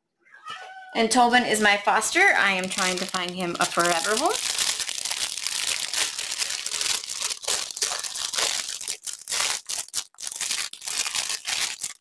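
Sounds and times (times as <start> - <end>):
plastic packaging crinkling: 2.1 - 12.0.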